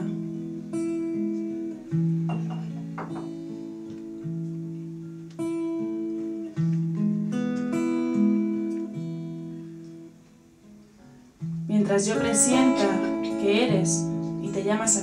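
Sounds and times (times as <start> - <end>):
acoustic guitar playing slowly: 0.0 - 15.0.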